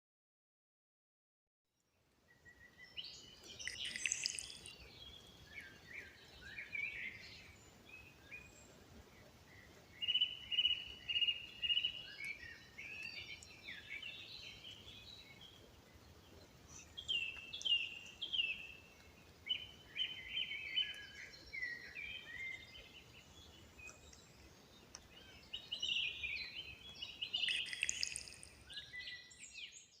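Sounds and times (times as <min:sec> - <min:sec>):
faint steady hiss: 0:01.9 - 0:29.6
songbirds trilling and chirping: 0:01.9 - 0:30.0.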